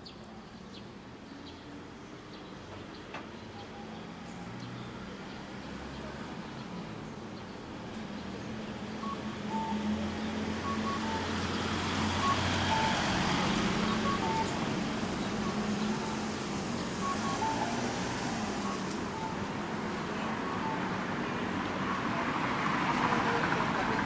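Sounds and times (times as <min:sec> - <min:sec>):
passing road traffic: 0:00.9 - 0:24.0.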